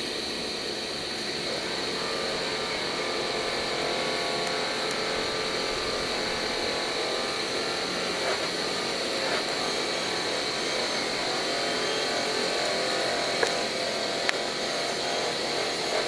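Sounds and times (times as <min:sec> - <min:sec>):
welding arc buzzing hiss: 0:00.0 - 0:16.0.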